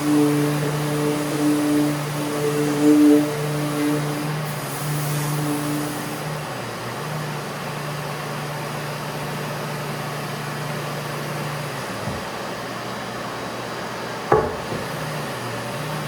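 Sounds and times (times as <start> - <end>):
dust extractor air rush: 0.0 - 16.0.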